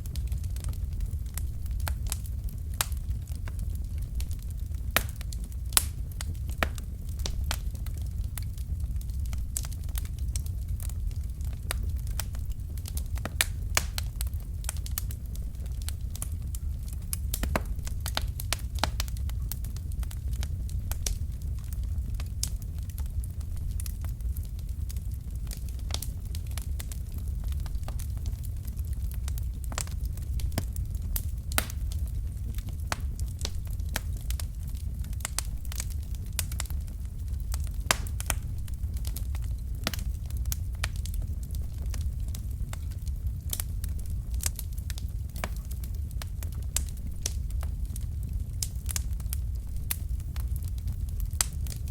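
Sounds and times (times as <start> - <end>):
fire crackling: 0.0 - 51.9
low rumble of flames: 0.0 - 51.9.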